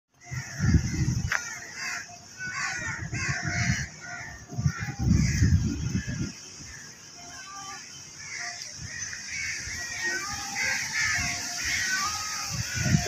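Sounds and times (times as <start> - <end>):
crows cawing: 0.2 - 13.0
steady high hiss: 0.2 - 13.0.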